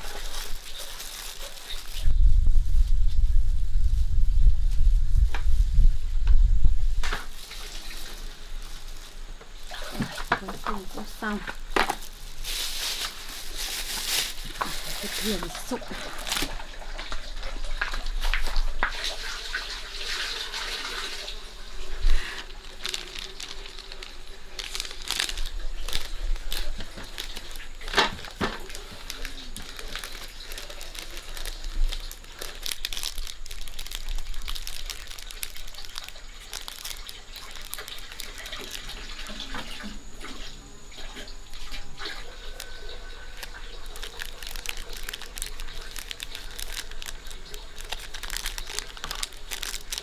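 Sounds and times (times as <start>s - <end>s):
water running: 7.0s - 50.0s.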